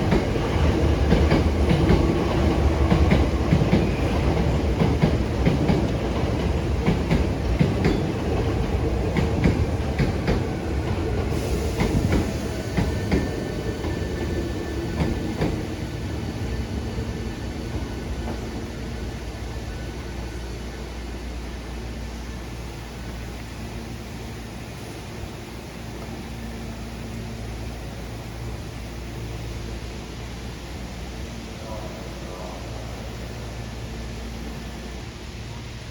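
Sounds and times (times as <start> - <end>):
subway train rumbling: 0.0 - 35.9.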